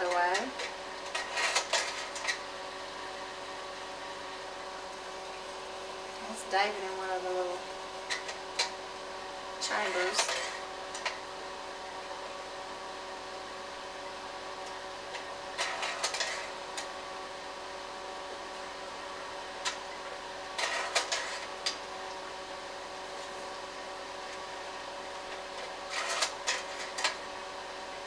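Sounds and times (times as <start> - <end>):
slide projector fan and motor hum: 0.0 - 28.0.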